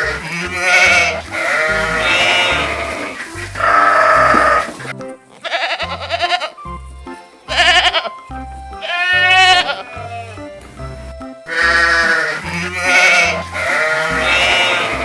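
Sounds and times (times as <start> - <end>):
goats bleating: 0.0 - 6.6, 7.5 - 8.2, 8.8 - 10.5, 11.5 - 15.0
background music with beat: 0.0 - 15.0.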